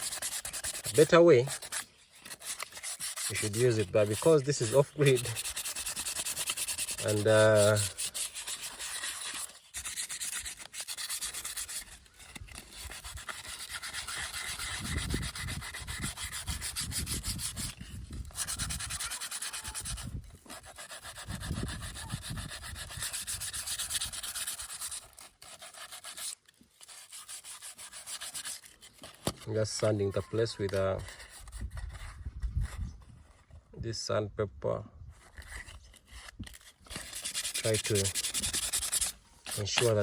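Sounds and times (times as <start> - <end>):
sandpaper rubbing a pipe: 0.0 - 33.6, 35.1 - 40.0.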